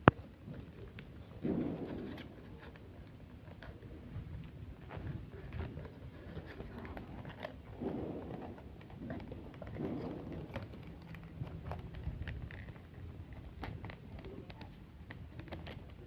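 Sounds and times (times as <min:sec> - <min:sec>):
paper rustling and folding: 0:00.0 - 0:16.0.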